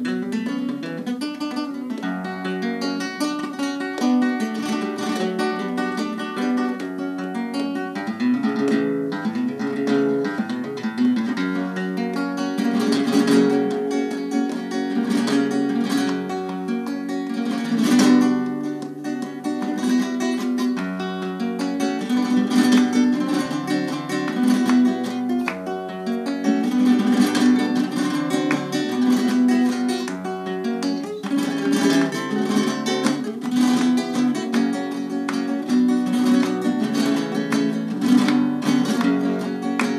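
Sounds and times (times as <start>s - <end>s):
flamenco acoustic guitar: 0.0s - 39.9s
hand-clapping: 0.0s - 39.9s.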